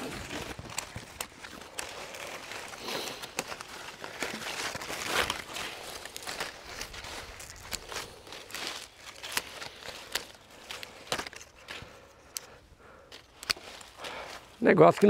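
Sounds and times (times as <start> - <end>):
leaves and branches rustling: 0.0 - 15.0.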